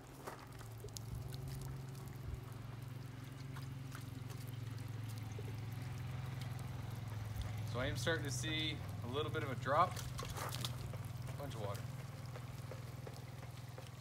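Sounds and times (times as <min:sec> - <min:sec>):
water splashing on a dish: 0:00.0 - 0:14.0.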